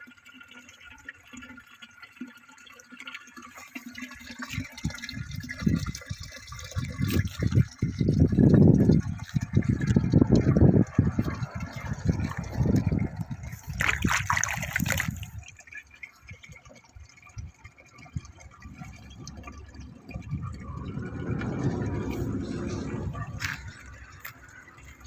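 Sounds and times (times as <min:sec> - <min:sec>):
water pouring into a container: 0:00.0 - 0:25.0.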